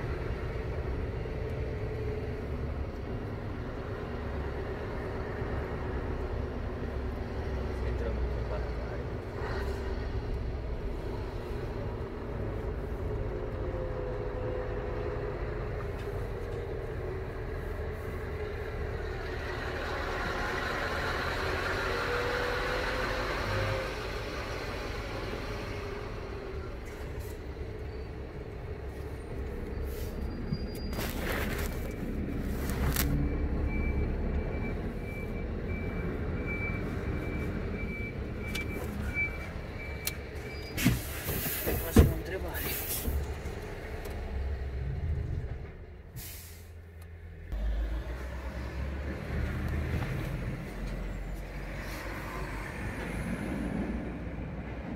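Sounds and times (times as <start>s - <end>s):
road noise: 0.0s - 54.9s.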